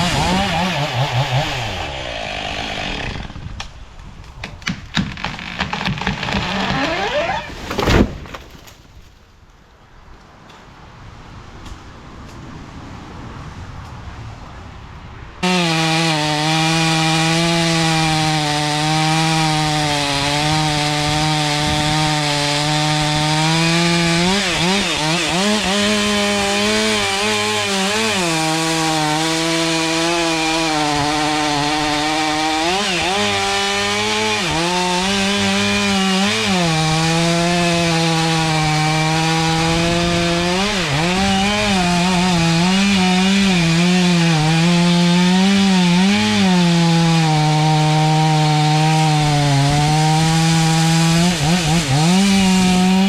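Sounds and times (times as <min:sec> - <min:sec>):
chainsaw cutting wood: 0:00.0 - 0:08.8, 0:15.4 - 0:53.0.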